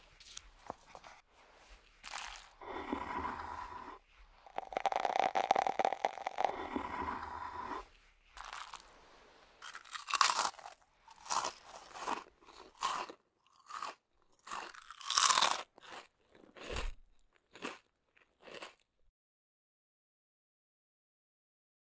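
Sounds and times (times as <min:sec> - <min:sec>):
person chewing crunchy food: 0:00.0 - 0:18.9.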